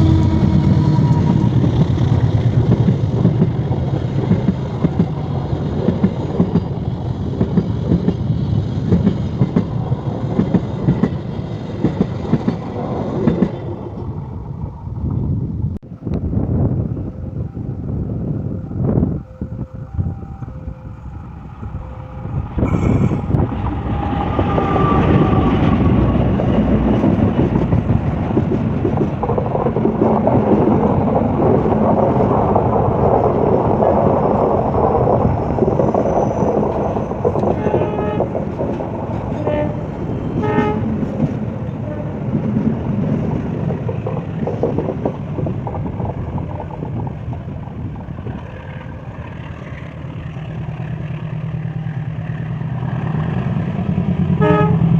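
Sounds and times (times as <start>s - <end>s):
train passing: 0.0s - 54.9s.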